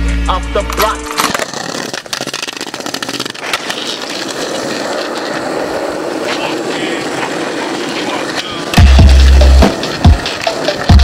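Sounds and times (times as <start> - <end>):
skateboard clacks: 0.8 - 11.0
skateboard wheels rolling on asphalt: 0.8 - 11.0.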